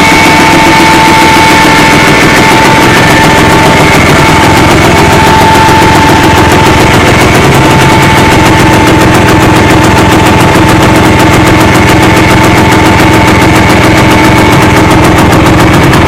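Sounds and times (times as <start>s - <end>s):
two-stroke engine running: 0.0s - 16.0s.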